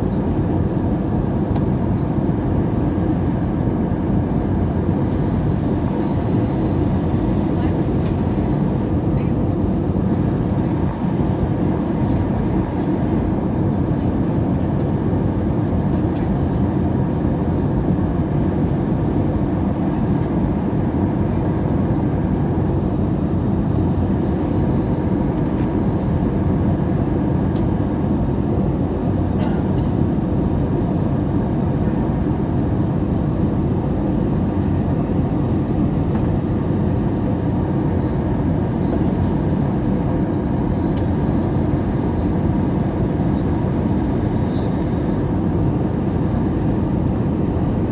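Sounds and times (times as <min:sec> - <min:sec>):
airplane engine drone: 0:00.0 - 0:47.9.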